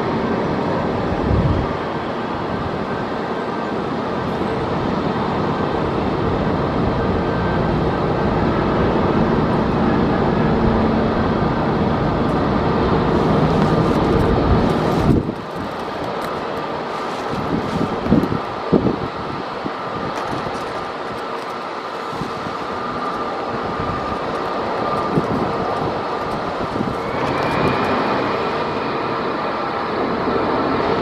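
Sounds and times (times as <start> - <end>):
gusting wind: 0.0 - 31.0
heavy rain: 0.0 - 31.0
jet engines rumbling: 0.0 - 31.0.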